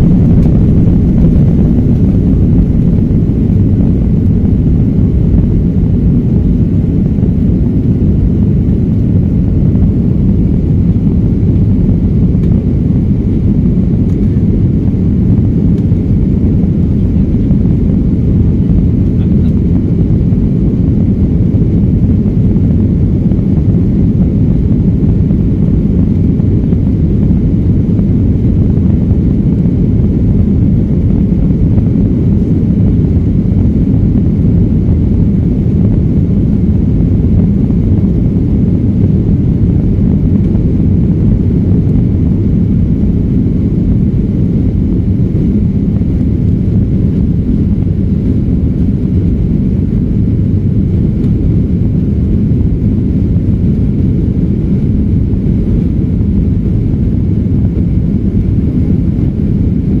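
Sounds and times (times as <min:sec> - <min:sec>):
jet airliner cabin noise: 0:00.0 - 1:00.0.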